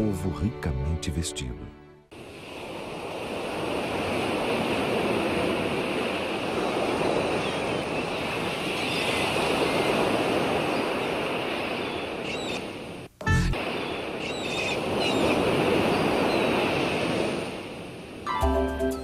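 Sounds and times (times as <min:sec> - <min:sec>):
ocean waves breaking: 0:02.1 - 0:18.7.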